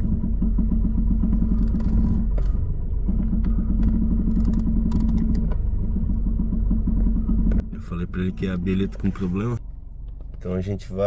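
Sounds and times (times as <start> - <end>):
suspension knocks and clicks: 0.0 - 7.6, 8.8 - 10.7
car engine idling: 0.0 - 11.0.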